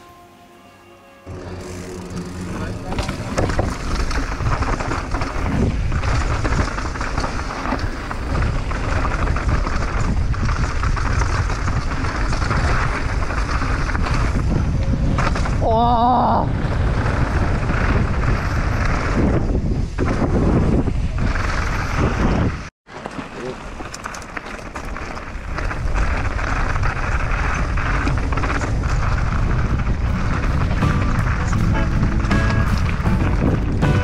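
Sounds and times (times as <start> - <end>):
bike rattling: 1.3 - 34.0
bike tyres on dirt trail: 1.3 - 34.0
wind buffeting microphone: 1.7 - 22.7, 25.3 - 34.0.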